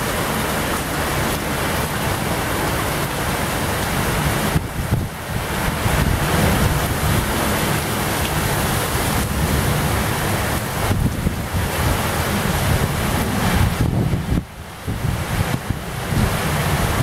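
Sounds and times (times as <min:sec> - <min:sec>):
wind gusting on microphone: 0:00.0 - 0:17.0
wind-driven rain hiss: 0:00.0 - 0:17.0.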